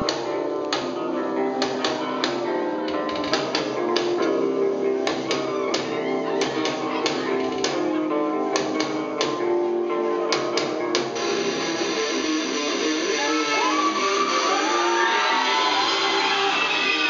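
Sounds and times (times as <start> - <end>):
electric guitars: 0.0 - 17.0.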